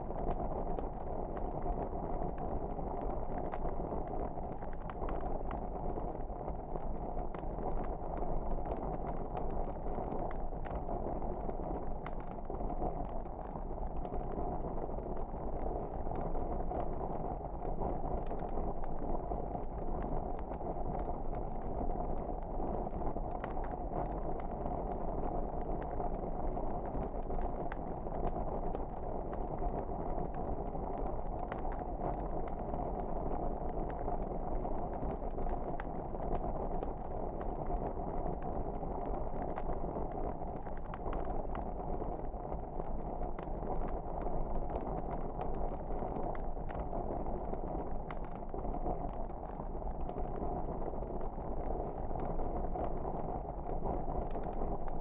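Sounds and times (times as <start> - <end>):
fire crackles and pops: 0.0 - 55.0.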